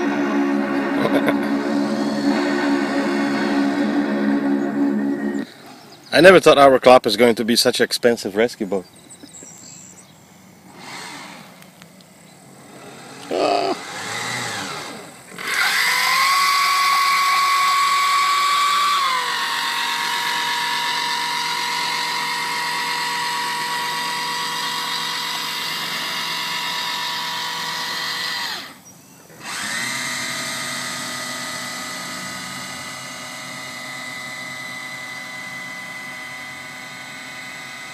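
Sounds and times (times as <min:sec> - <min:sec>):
drone propellers whining: 0:00.0 - 0:06.1, 0:09.2 - 0:37.9.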